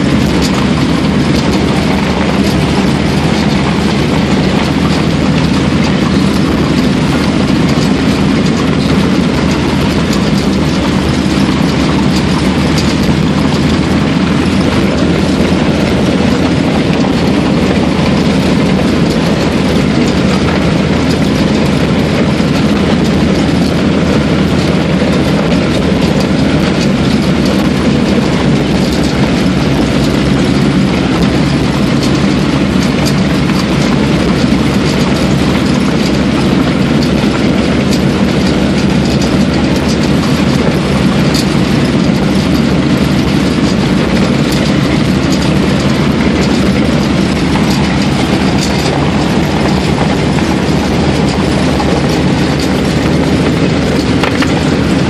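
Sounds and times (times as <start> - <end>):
snow bus engine drone: 0.0 - 55.0.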